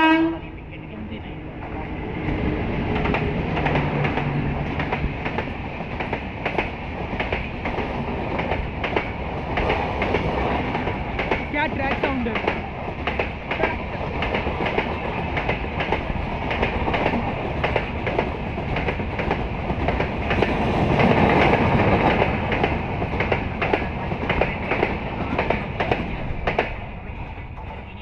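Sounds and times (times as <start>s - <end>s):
train rolling rumble: 0.0s - 28.0s.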